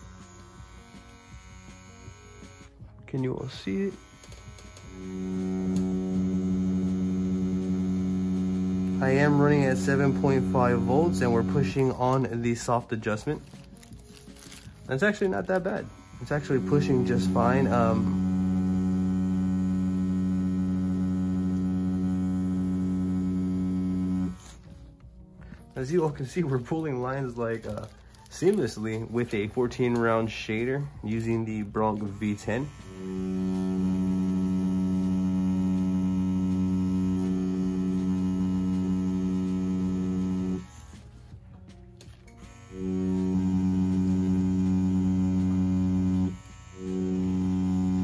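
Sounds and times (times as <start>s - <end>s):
tattoo machine humming: 0.0s - 25.0s, 27.6s - 48.0s.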